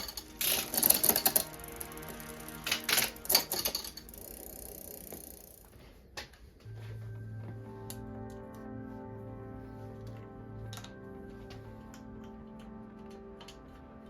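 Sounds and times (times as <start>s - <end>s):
background music: 0.0s - 5.7s, 6.6s - 14.0s.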